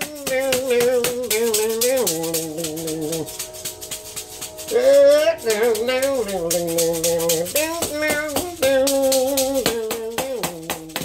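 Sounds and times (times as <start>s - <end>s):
maraca shaken in steady rhythm: 0.0s - 11.0s
wordless blues melody: 0.0s - 11.0s.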